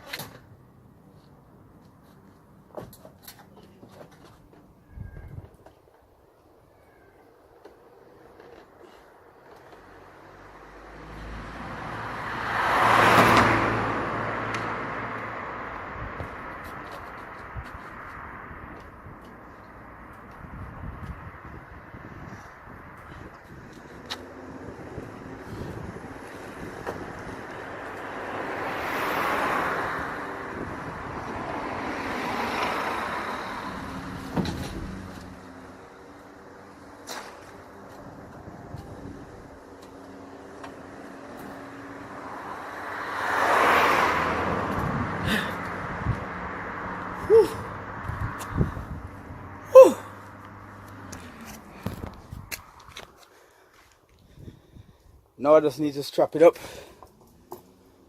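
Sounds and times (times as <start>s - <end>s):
road vehicle passing by: 8.9s - 54.9s, 55.6s - 58.0s.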